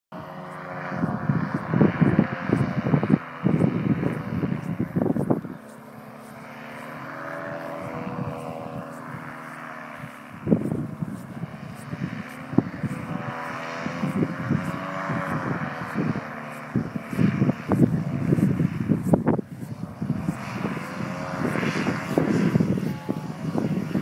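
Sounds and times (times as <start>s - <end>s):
engine and propeller droning: 0.1s - 24.0s
wind buffeting microphone: 0.2s - 24.0s.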